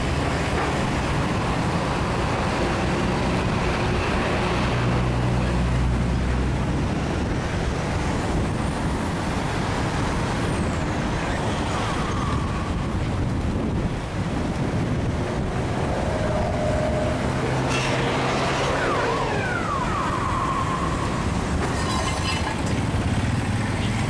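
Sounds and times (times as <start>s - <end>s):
heavy vehicle engine hum: 0.0s - 24.0s
passing traffic rush: 0.0s - 24.0s.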